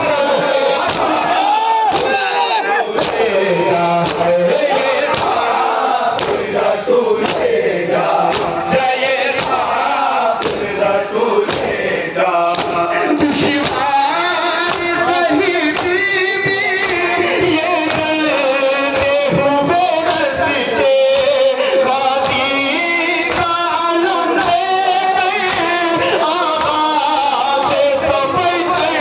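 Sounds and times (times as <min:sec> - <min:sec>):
men beating chests in unison: 0:00.0 - 0:29.0
men chanting a lament: 0:00.0 - 0:29.0.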